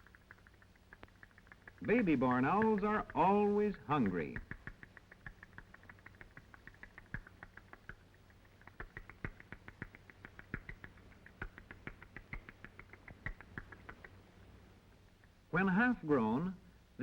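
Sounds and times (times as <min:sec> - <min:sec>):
sharp clicks: 0:00.0 - 0:14.2.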